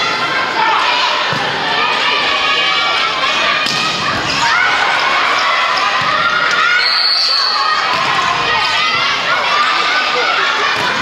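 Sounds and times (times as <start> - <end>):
players shouting: 0.0 - 11.0.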